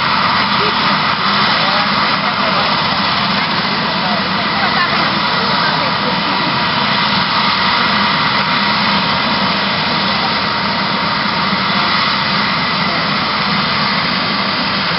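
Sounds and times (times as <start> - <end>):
helicopter rotor rush: 0.0 - 14.9
helicopter turbine whine: 0.0 - 14.9.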